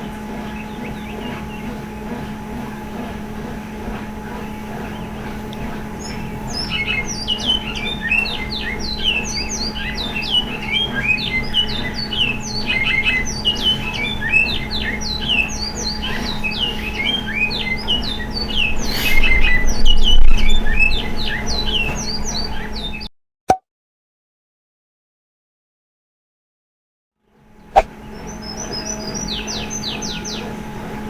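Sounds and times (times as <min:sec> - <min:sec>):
birds chirping: 0:00.0 - 0:02.2, 0:03.0 - 0:23.1, 0:27.7 - 0:30.7.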